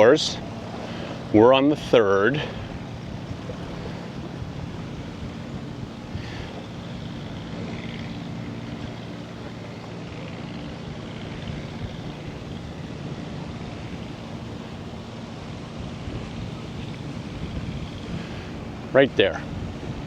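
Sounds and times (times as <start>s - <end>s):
low engine drone: 0.0s - 20.0s
wind rumbling on microphone: 0.0s - 20.0s.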